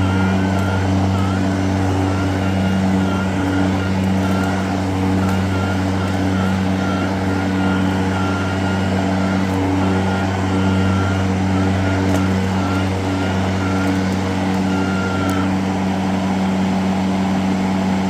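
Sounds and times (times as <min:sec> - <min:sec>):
high wavering whine: 0:00.0 - 0:18.0
lawn mower motor hum: 0:00.0 - 0:18.0.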